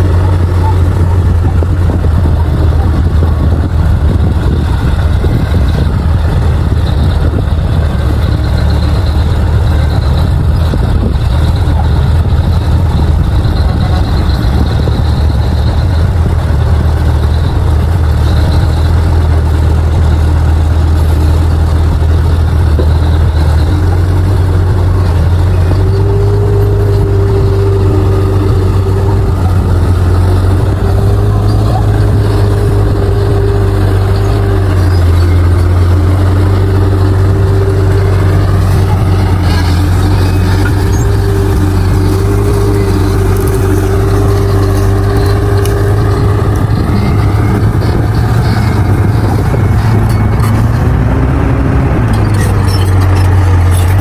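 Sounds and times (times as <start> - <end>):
bulldozer diesel engine droning: 0.0 - 54.0
high steady whine: 0.0 - 54.0.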